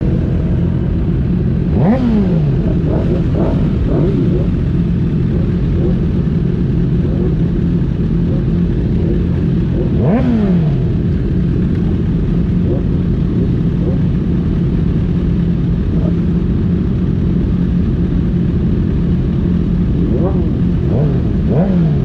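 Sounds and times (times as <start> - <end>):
motorcycle engine revving: 0.0 - 22.0
racing motorcycle engines droning: 0.0 - 22.0.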